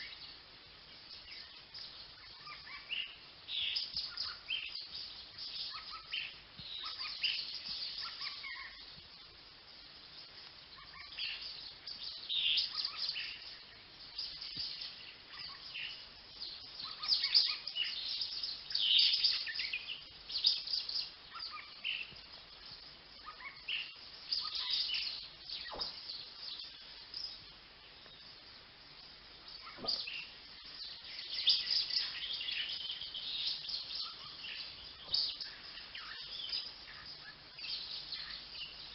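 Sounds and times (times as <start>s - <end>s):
finches chirping and trilling: 0.0s - 38.9s.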